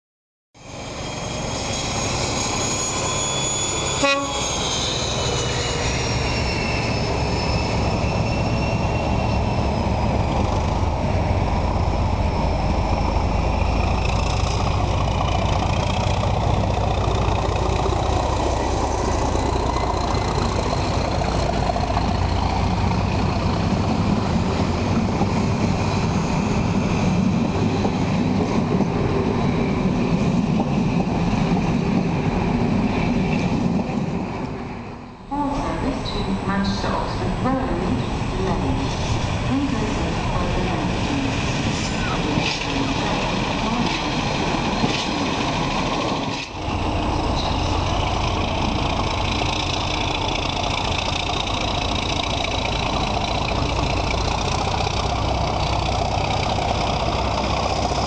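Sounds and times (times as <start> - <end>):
diesel train rumbling: 0.6 - 58.0.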